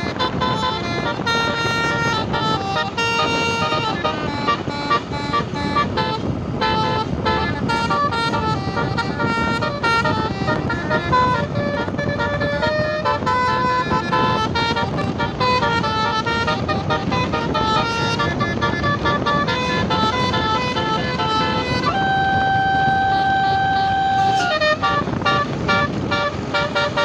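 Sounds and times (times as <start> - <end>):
bus horn playing a tune: 0.0 - 27.0
steady low rumble: 0.0 - 27.0.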